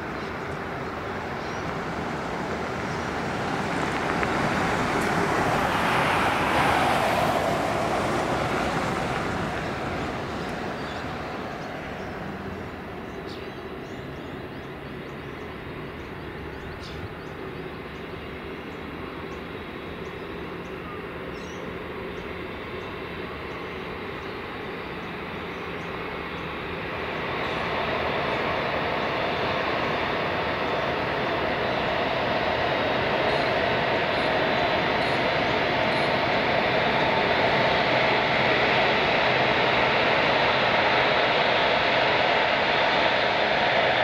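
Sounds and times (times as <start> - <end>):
jet engine roar: 0.0 - 44.0
steady background hum: 0.0 - 44.0.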